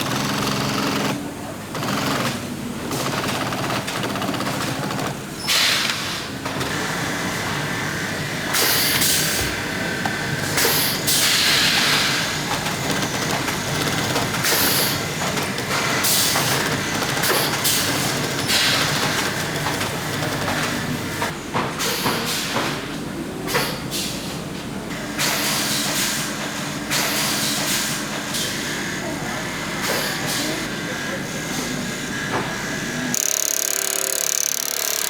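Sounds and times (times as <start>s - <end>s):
workshop machinery humming: 0.0s - 35.0s.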